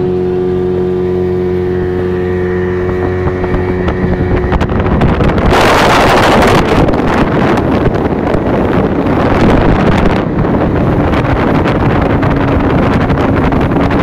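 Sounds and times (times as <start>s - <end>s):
motorboat running: 0.0s - 14.0s
wind buffeting microphone: 0.0s - 14.0s.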